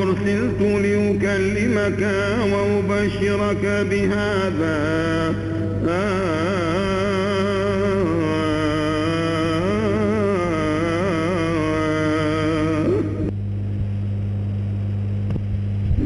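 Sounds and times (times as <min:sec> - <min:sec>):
man chanting: 0:00.0 - 0:13.3
steady low hum: 0:00.0 - 0:16.0.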